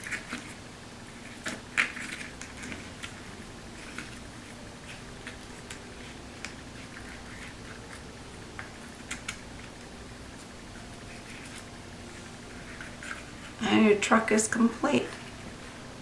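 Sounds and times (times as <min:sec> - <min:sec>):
paper and card rustling: 0:00.0 - 0:13.7
low steady hum: 0:00.0 - 0:16.0.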